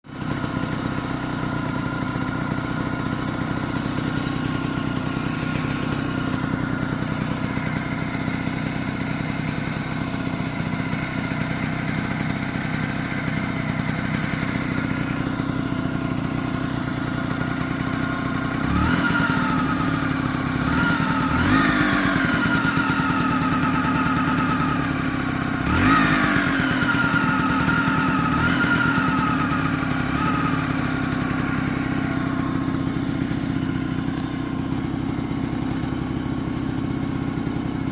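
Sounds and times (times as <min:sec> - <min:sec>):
scooter engine idling and revving: 0:00.0 - 0:37.9.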